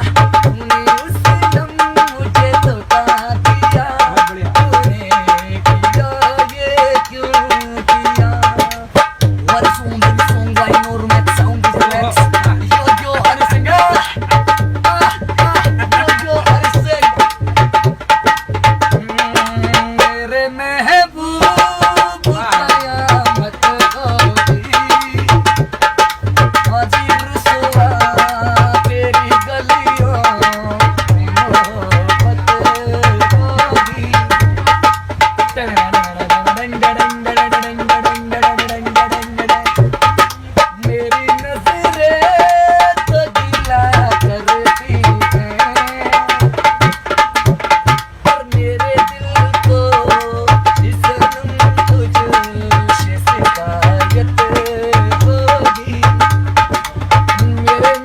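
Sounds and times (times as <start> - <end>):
tabla fast rhythm: 0.0 - 58.0.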